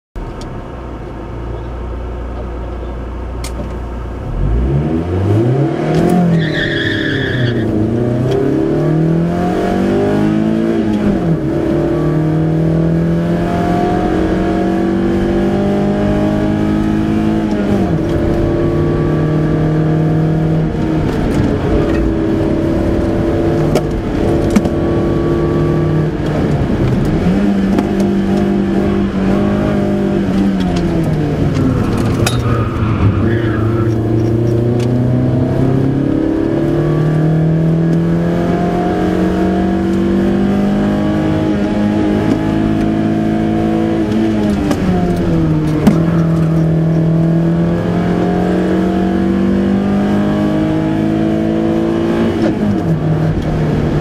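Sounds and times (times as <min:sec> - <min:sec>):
car engine revving: 0:03.3 - 0:54.0.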